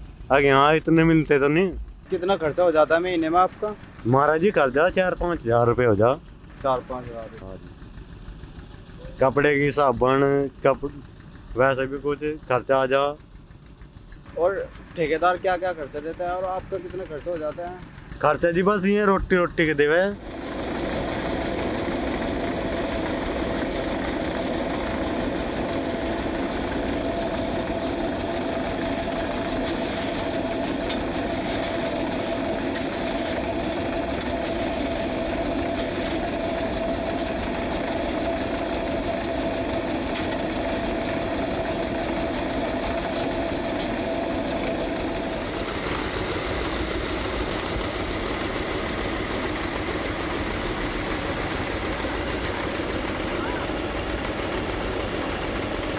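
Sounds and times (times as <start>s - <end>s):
steady machine whine: 0.0s - 55.9s
tractor diesel engine running: 0.0s - 55.9s.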